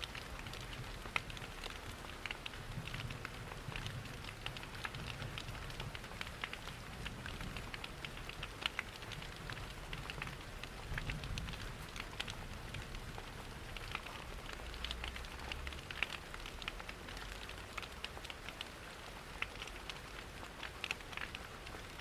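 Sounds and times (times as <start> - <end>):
steady rain: 0.0 - 22.0
crackling fireplace: 0.1 - 22.0.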